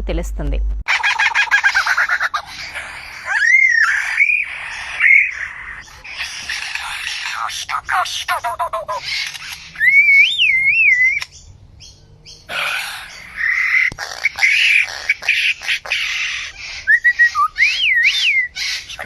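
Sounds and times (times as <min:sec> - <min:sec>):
bird singing: 0:01.0 - 0:19.0.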